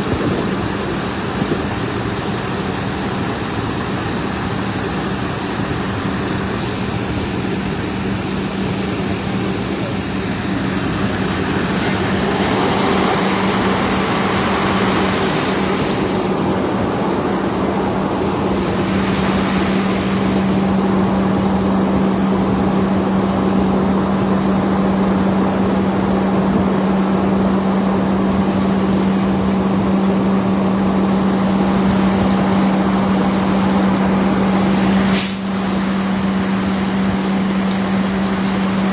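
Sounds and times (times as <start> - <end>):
fire truck engine droning: 0.0 - 38.9.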